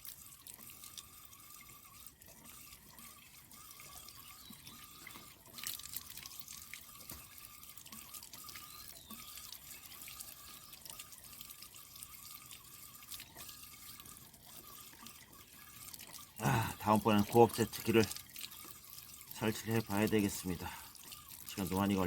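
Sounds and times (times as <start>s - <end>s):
small splashes: 0.0s - 22.0s
water trickling and dripping: 0.0s - 22.0s.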